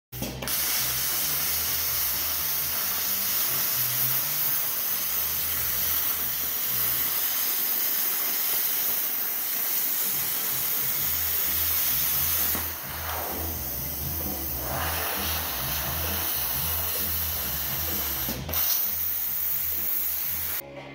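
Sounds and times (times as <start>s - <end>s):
plasma cutter hissing: 0.2s - 20.6s.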